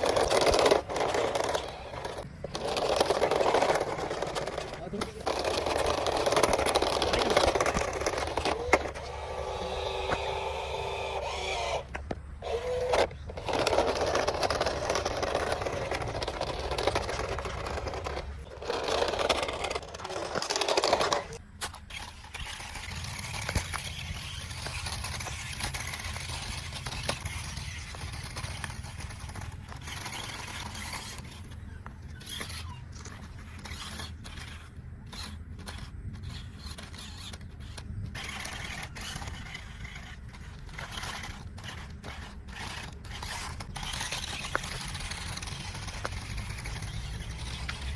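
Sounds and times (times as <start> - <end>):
toy car motor whirring: 0.0 - 47.9
tyres scraping over ground: 0.0 - 47.9.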